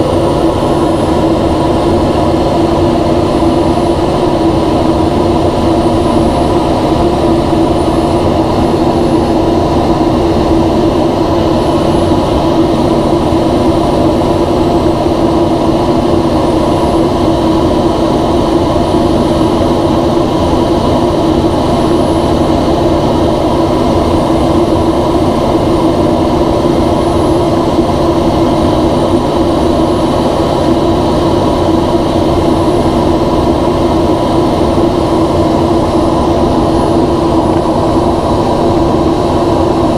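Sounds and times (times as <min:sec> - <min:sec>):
aircraft cockpit drone: 0:00.0 - 0:39.9
steady hum tones: 0:00.0 - 0:39.9.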